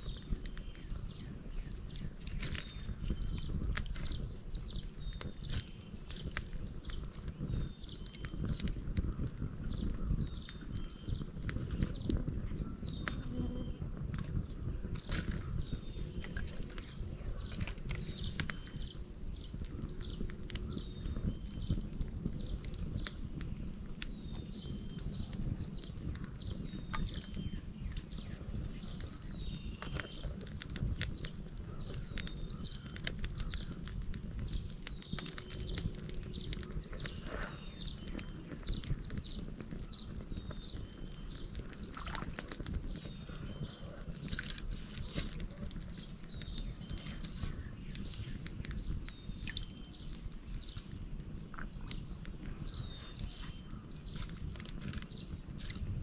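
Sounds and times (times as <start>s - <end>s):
birds chirping: 0.0s - 56.0s
wood fire crackling: 0.0s - 56.0s.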